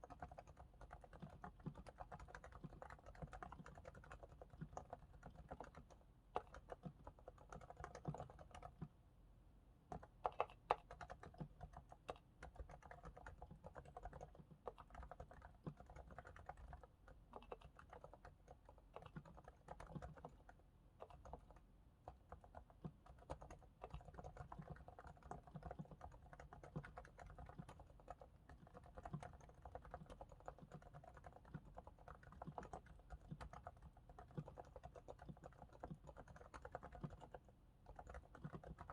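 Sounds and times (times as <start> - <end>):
soft keyboard keystrokes: 0.0 - 9.0, 9.9 - 38.9.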